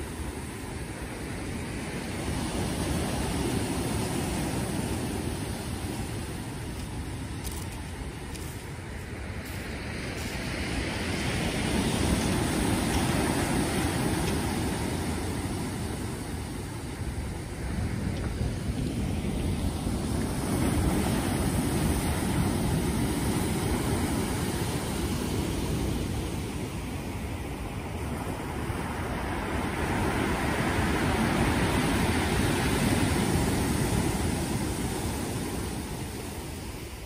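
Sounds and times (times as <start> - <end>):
surf washing up shingle beach: 0.0 - 37.0.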